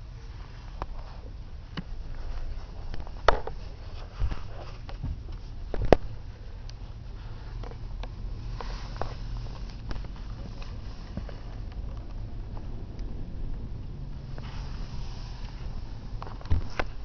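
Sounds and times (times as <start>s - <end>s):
muffled motorcycle rumble: 0.0s - 17.0s.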